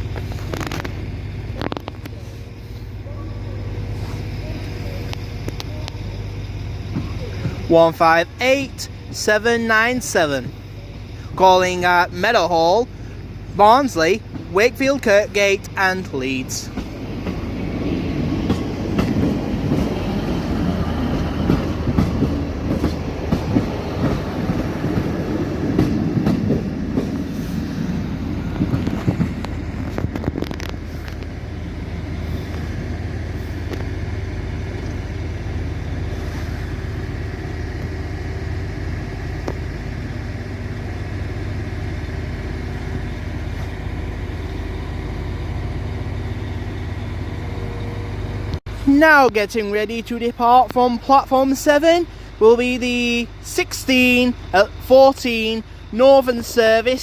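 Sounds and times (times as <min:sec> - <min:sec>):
train engine hum: 0:00.0 - 0:57.0
train rolling with rail clatter: 0:00.0 - 0:57.0.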